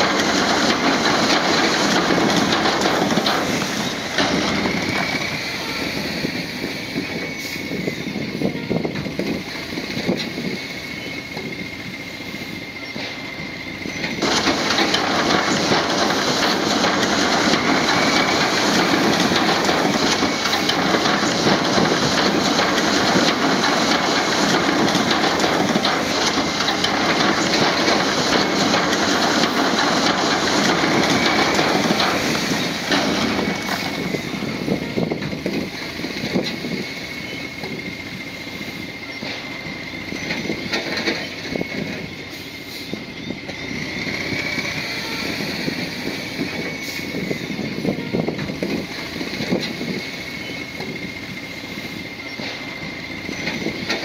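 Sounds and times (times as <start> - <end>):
diesel engine running: 0.0 - 54.0
steel tracks clattering: 0.0 - 54.0.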